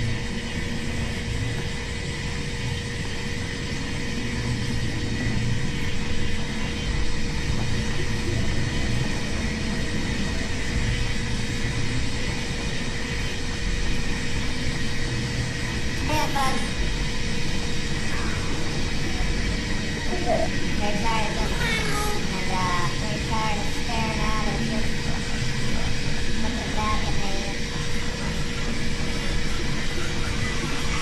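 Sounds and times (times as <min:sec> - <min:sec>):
constant hum tone: 0:00.0 - 0:31.0
low rumbling drone: 0:00.0 - 0:31.0.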